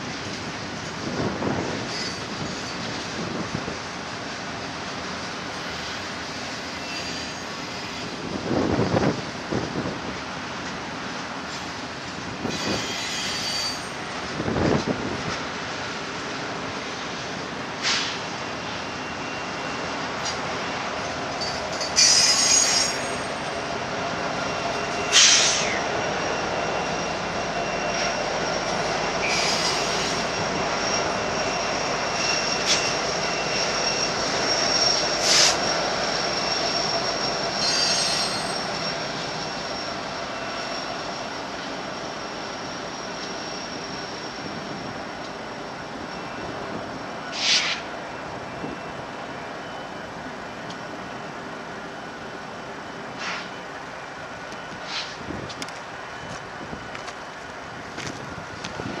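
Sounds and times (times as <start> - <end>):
train rolling past: 0.0 - 59.0
train wheels squealing: 1.2 - 3.4, 5.0 - 9.2, 12.4 - 14.4, 16.9 - 55.4, 56.0 - 57.0.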